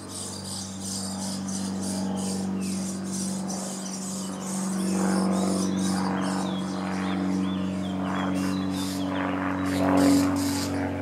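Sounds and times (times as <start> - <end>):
nestlings begging calls: 0.0 - 10.9
low engine hum: 0.0 - 11.0.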